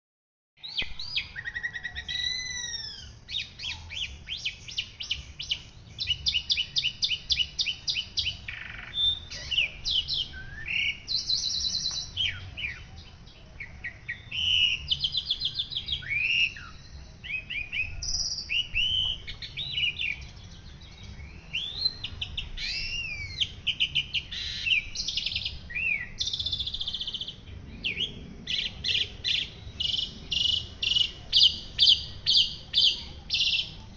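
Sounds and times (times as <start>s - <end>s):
songbird singing: 0.6s - 33.9s.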